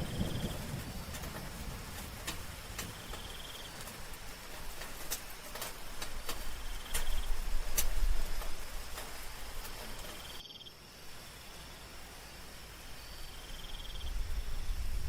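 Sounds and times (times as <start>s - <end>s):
high insect chirp: 0.0s - 15.0s
soft rain falling: 0.0s - 15.0s.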